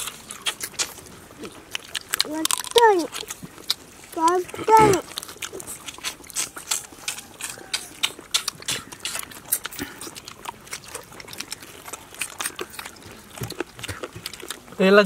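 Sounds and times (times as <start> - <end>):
people chewing and smacking: 0.0 - 15.0.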